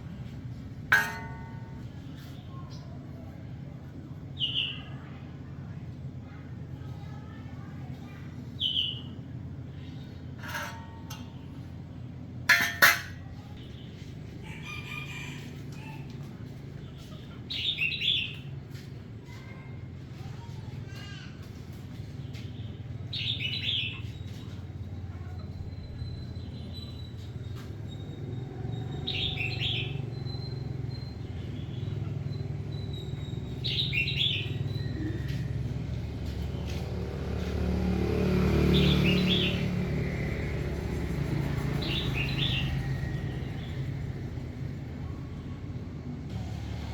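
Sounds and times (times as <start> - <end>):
low engine-like rumble: 0.0 - 46.9.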